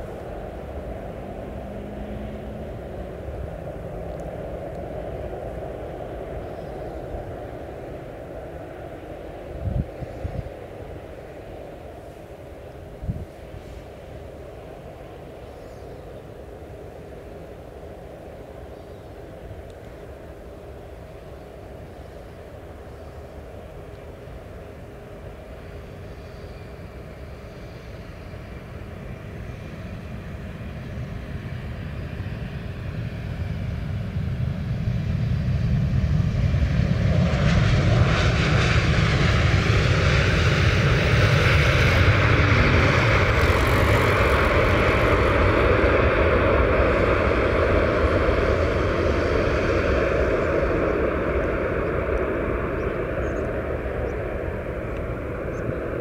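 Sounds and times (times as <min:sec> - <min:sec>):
jet engines of landing airliner: 0:00.0 - 0:56.0
rushing of rolling aircraft: 0:00.0 - 0:56.0.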